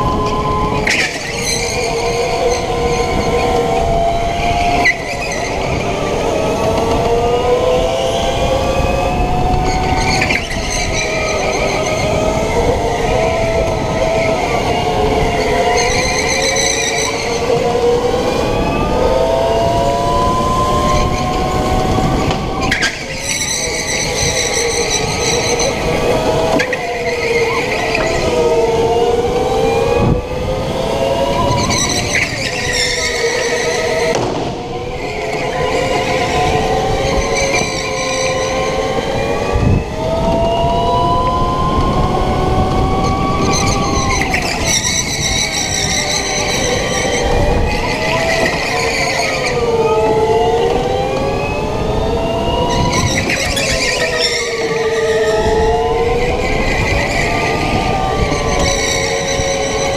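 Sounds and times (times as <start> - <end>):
go-kart motor whine: 0.0 - 59.9
rumble of tyres and chassis: 0.0 - 59.9.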